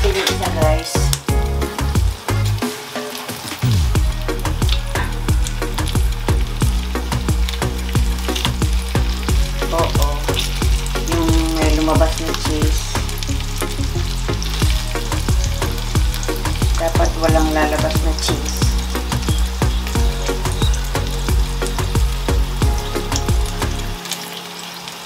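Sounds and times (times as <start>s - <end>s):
food sizzling in frying pan: 0.0s - 25.0s.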